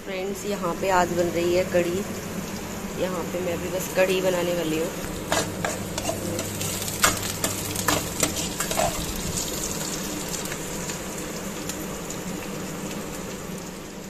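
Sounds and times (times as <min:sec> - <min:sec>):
food sizzling in a pan: 0:00.2 - 0:14.0.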